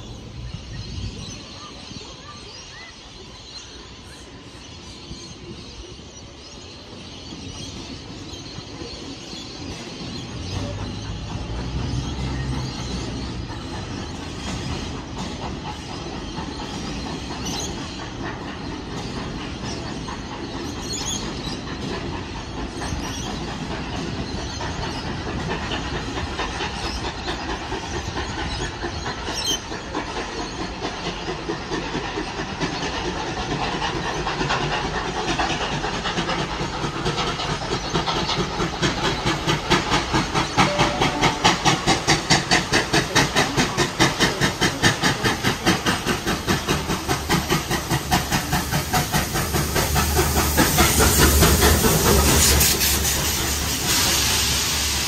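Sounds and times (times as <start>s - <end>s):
steam hiss: 0.0s - 55.0s
locomotive exhaust chuffs: 9.9s - 55.0s.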